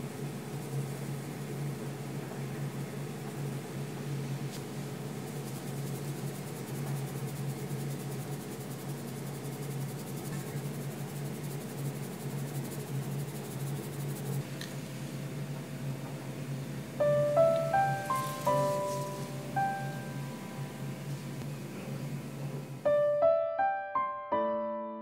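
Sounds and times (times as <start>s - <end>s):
even hiss: 0.0s - 23.0s.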